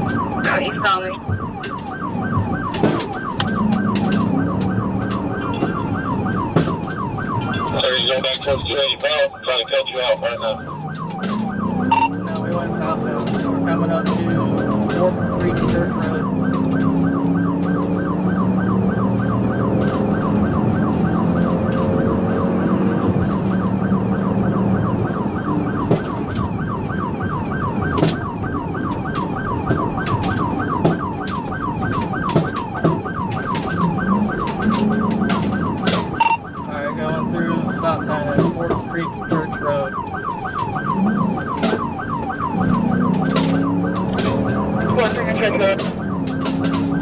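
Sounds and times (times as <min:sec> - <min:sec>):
car engine and road rumble: 0:00.0 - 0:47.0
police siren yelping: 0:00.0 - 0:47.0.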